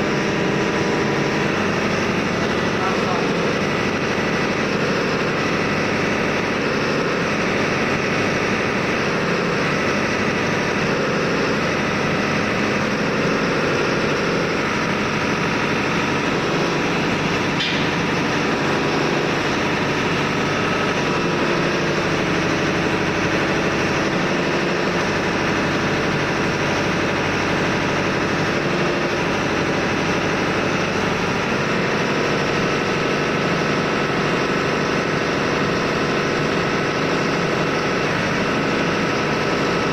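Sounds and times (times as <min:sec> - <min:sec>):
engine-room machinery drone: 0:00.0 - 0:39.9.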